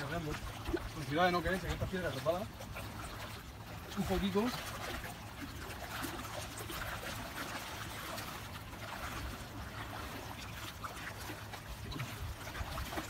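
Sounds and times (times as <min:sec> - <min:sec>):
water splashing against rocks: 0:00.0 - 0:13.0.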